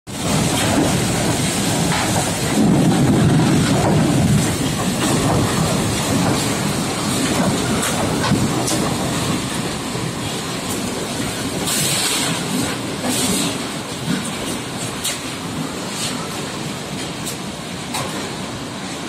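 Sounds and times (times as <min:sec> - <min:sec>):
strong gusty wind: 0:00.1 - 0:19.0.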